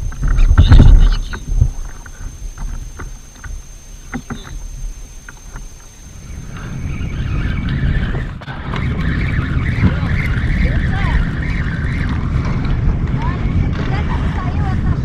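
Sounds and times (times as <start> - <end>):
hiss of sea and wind: 0.0 - 15.0
wind buffeting microphone: 0.0 - 15.0.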